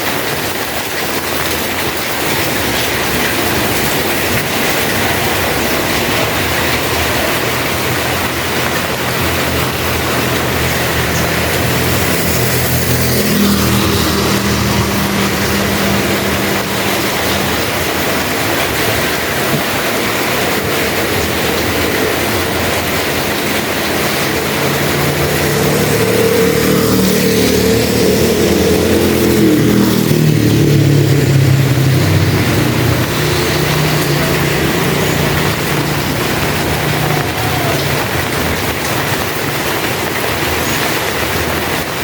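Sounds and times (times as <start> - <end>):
heavy rain: 0.0 - 42.0
vehicle engine hum: 0.0 - 42.0.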